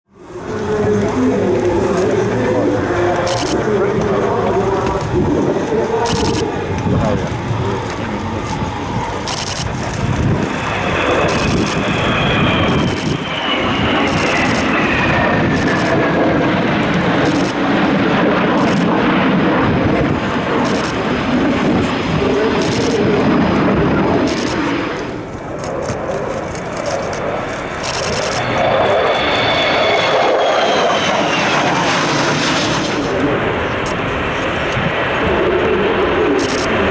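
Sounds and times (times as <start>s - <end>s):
jets flying past: 0.2s - 36.9s.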